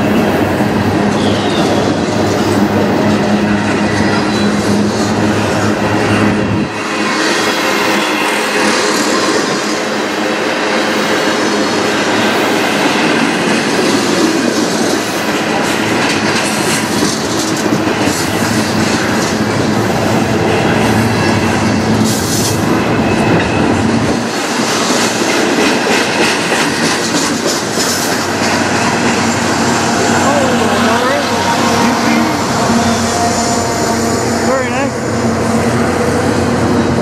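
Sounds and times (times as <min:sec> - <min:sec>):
clickety-clack over rail joints: 0:00.0 - 0:37.0
train wheels rumbling on rails: 0:00.0 - 0:37.0.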